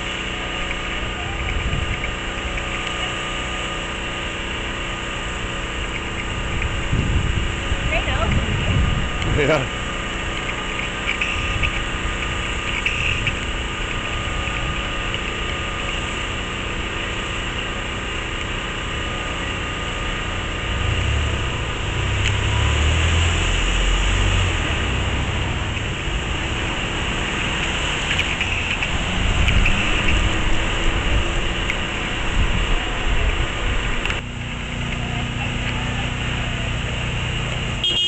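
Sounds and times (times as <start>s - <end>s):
deep rumble: 0.0s - 2.9s, 4.6s - 17.2s, 18.8s - 37.8s
portable generator engine running: 0.0s - 38.0s.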